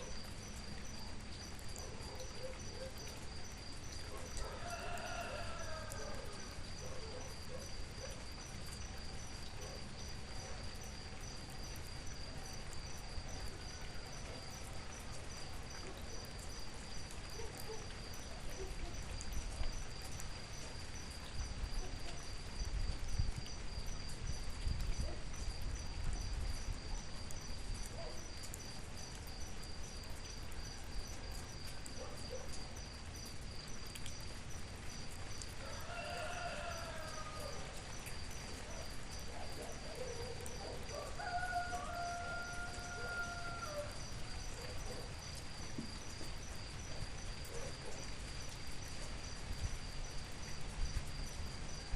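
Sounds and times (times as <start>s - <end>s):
insect trill: 0.0s - 51.9s
light rain hissing: 0.0s - 51.9s.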